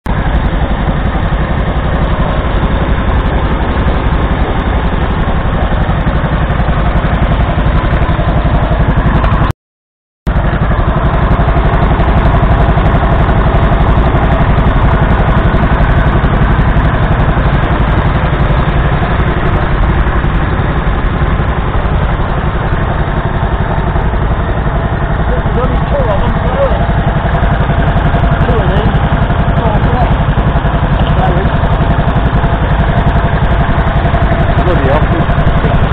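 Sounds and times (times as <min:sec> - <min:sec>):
tractor engine idling: 0:00.0 - 0:09.5, 0:10.3 - 0:35.9.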